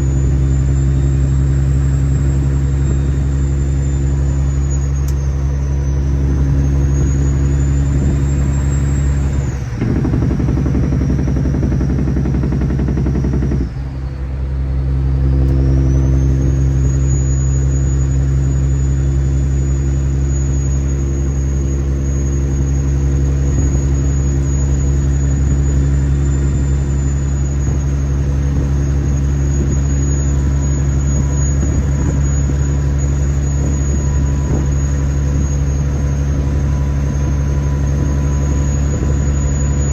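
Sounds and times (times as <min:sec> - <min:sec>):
turbo whistle: 0:00.0 - 0:14.3, 0:14.9 - 0:39.9
diesel engine running: 0:00.0 - 0:39.9.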